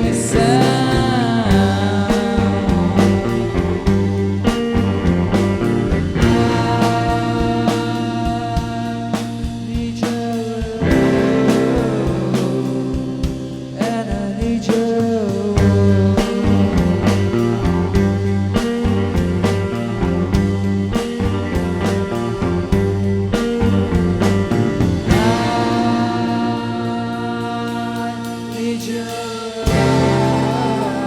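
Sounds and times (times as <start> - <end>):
rock band playing live: 0.0 - 31.0.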